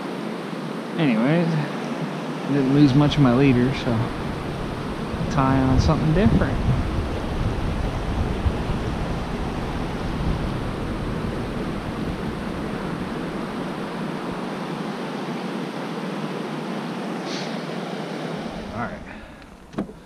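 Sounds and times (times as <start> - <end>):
creek water flowing: 0.0 - 20.0.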